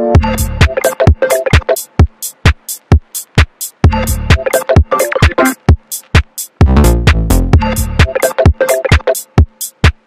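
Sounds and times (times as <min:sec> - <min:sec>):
electronic music with drum-machine beat: 0:00.0 - 0:10.0.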